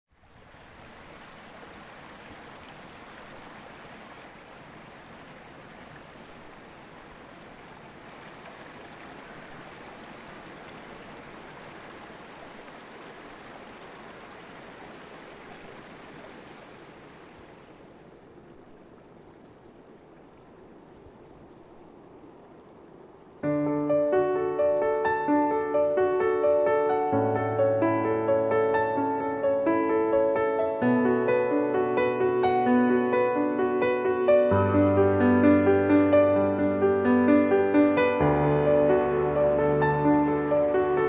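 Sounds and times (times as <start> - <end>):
flowing stream water: 0.1 - 41.0.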